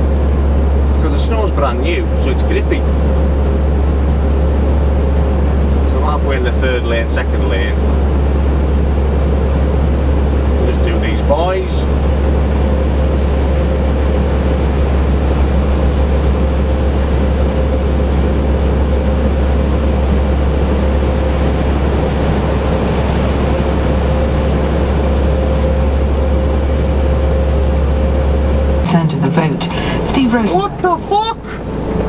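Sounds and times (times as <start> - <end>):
faint steady whine: 0.0 - 32.0
lorry diesel engine droning: 0.0 - 32.0
road noise: 0.0 - 32.0.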